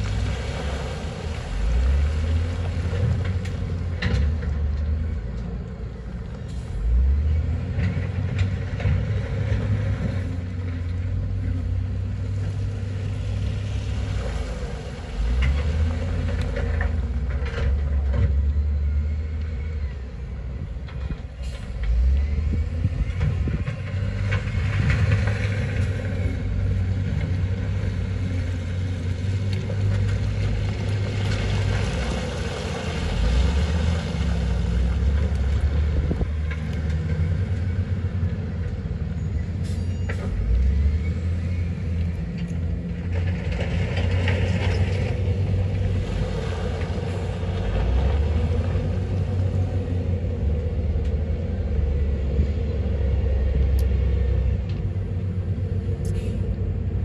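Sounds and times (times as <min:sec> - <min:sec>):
heavy diesel engines rumbling: 0:00.0 - 0:57.0.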